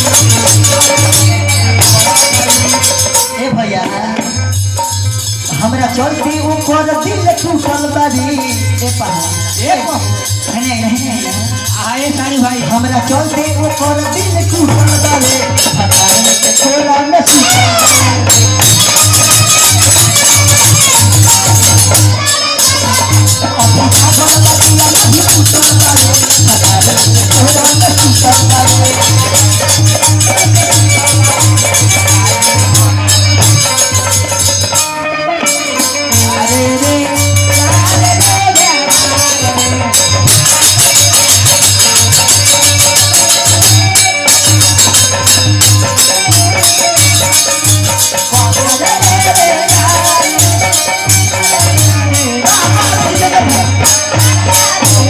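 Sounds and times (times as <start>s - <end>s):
jingling shaking percussion: 0.0s - 55.0s.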